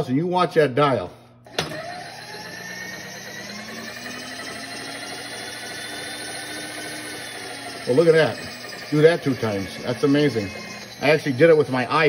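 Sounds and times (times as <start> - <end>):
motor whine: 1.5 - 12.0.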